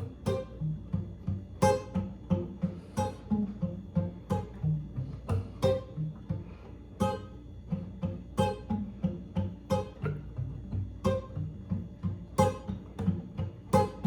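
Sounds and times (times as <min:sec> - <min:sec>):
guitar plucked notes: 0:00.0 - 0:14.0.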